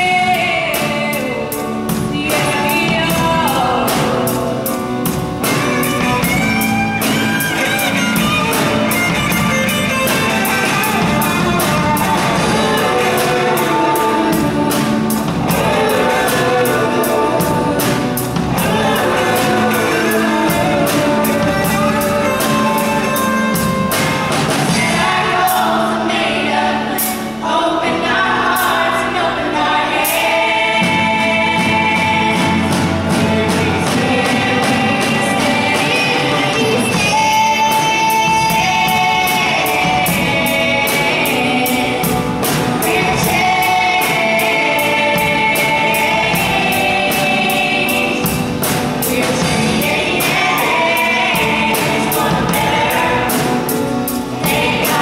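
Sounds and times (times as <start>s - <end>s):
acoustic guitar: 0.0s - 55.0s
drum kit beat: 0.0s - 55.0s
group singing in unison: 0.0s - 55.0s
keyboard: 0.0s - 55.0s.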